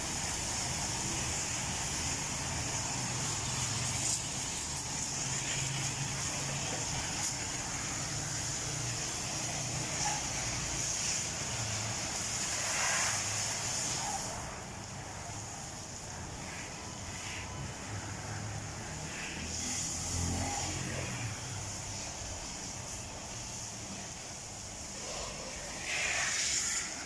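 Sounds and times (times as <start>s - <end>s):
water spray hissing: 0.0s - 27.0s.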